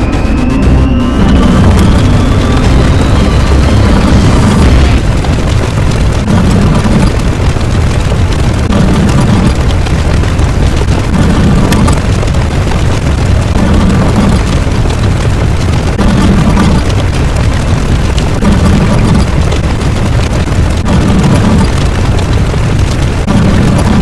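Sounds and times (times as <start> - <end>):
loud rumbling: 0.0 - 24.0.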